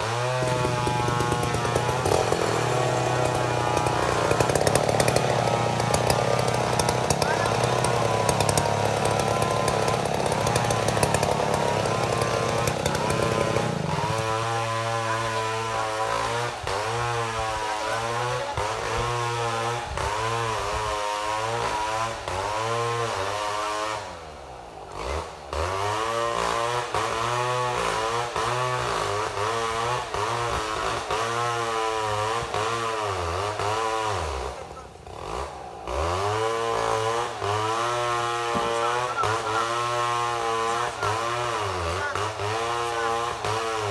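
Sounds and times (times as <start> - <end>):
chainsaw running at high revs: 0.0 - 43.9.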